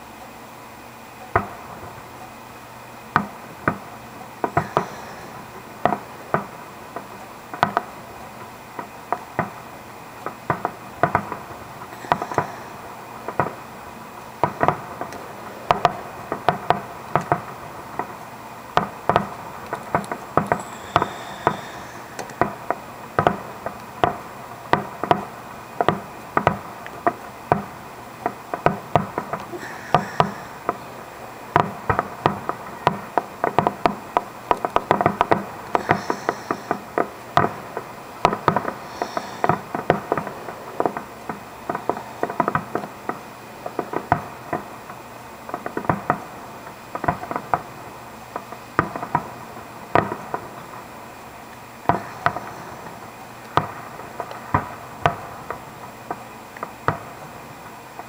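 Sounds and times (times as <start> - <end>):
fireworks shells bursting: 0.8 - 58.0.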